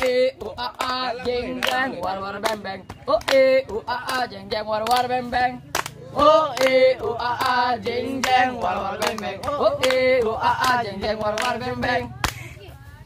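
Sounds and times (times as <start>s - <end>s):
boys singing a cheer in unison: 0.0s - 12.3s
hand claps: 0.0s - 12.5s.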